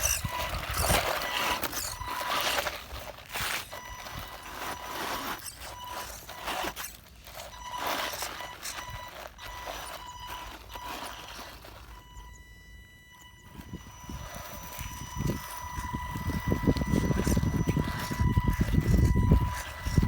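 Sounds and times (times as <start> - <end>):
electric motor whining: 0.0 - 20.0
tyres scraping over gravel: 0.0 - 20.0.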